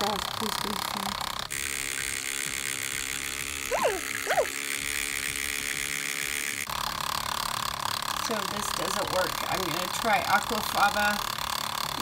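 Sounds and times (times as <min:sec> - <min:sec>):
milk frother motor whir: 0:00.0 - 0:12.0.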